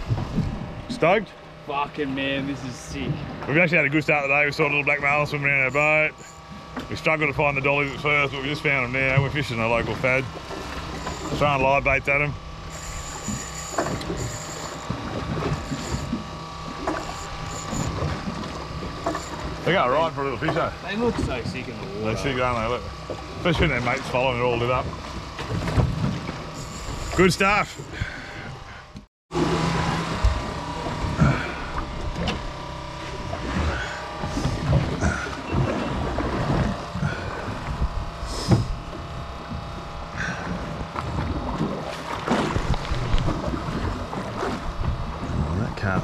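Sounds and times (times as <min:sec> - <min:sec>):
boat engine idling: 0:00.0 - 0:46.0.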